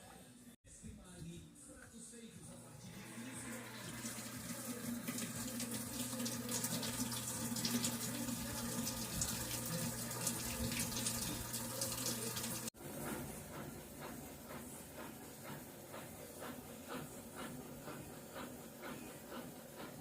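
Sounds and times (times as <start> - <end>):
washing machine humming: 2.5 - 20.0
water running in washing machine: 2.8 - 20.0.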